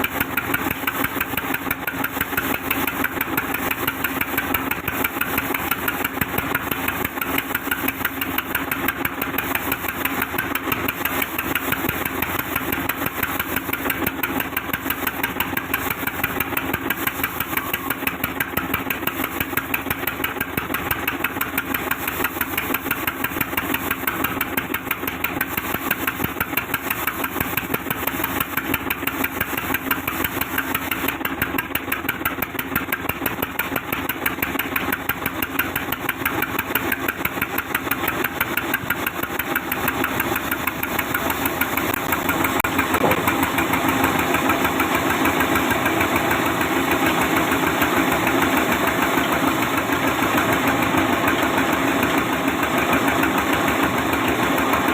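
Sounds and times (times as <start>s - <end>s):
sawmill machine pulsing: 0.0s - 54.9s.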